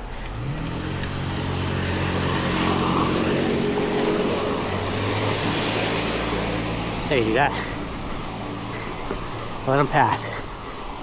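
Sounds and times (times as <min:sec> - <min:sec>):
road and wind noise: 0:00.0 - 0:11.0
vehicle engine hum: 0:00.0 - 0:11.0.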